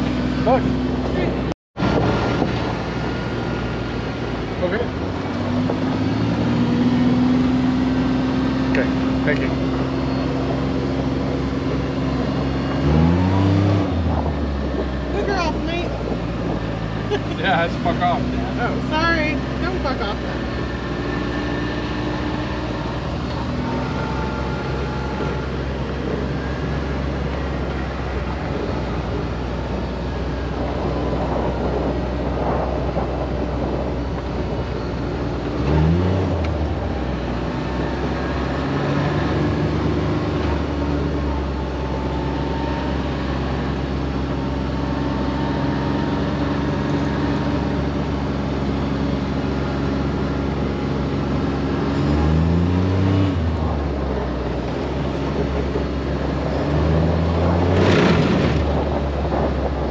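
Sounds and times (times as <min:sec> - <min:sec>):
utility vehicle engine driving: 0:00.0 - 0:59.9.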